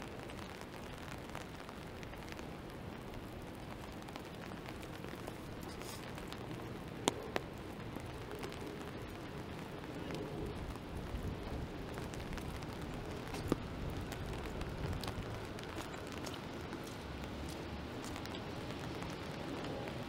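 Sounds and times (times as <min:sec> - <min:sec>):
rain pattering on umbrella: 0:00.0 - 0:20.0.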